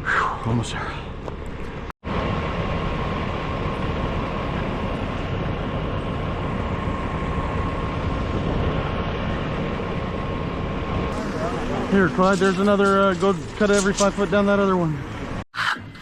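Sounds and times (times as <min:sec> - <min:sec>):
faint constant whine: 0:00.6 - 0:15.4
machine engine running: 0:01.8 - 0:15.4.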